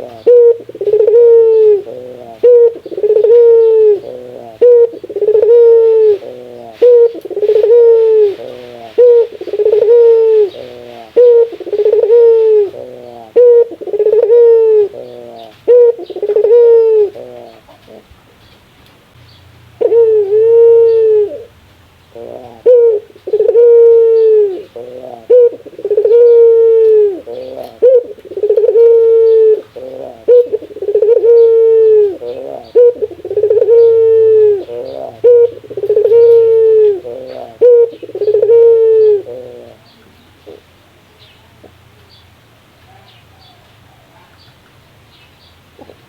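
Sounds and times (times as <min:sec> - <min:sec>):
dove cooing: 0:00.0 - 0:18.2, 0:19.7 - 0:40.8, 0:45.7 - 0:46.0.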